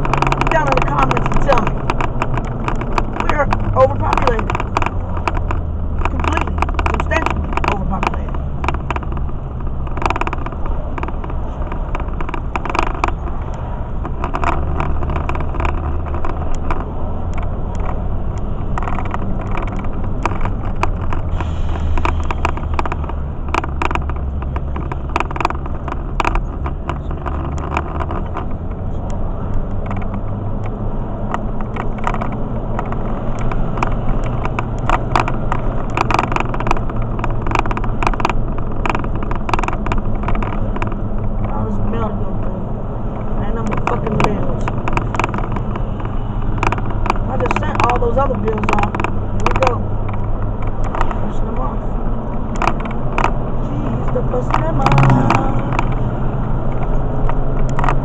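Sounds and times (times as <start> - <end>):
short clicks and knocks: 0.0 - 41.6, 42.4 - 58.0
engine and road drone: 0.0 - 58.0.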